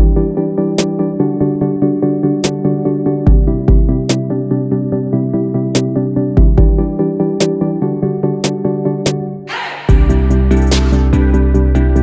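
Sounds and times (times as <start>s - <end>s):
pulsing synthesizer chords: 0.0s - 12.0s.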